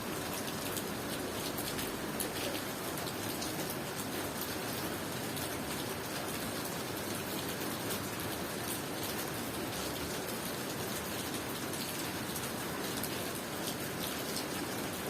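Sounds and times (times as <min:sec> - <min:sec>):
steady rain with pattering drops: 0:00.0 - 0:15.0.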